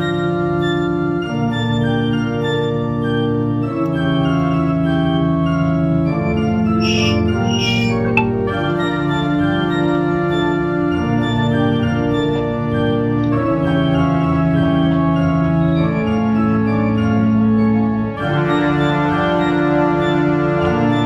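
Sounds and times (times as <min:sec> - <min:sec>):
organ-like keyboard chords: 0:00.0 - 0:21.0.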